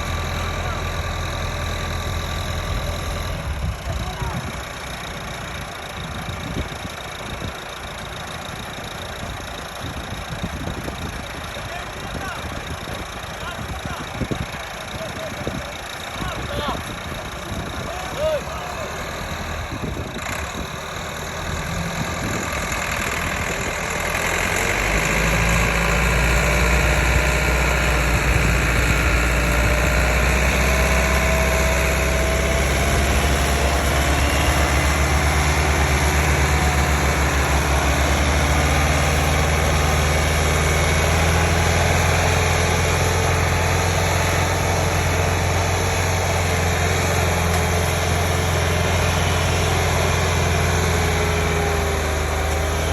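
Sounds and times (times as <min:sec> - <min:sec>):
tractor diesel engine working hard: 0:00.0 - 0:52.9.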